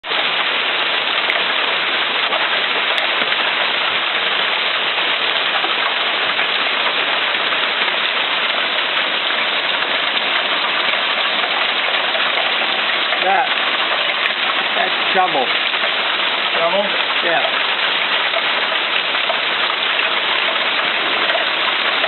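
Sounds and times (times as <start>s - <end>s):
hail pelting down: 0.0s - 22.0s
heavy rain: 0.0s - 22.0s.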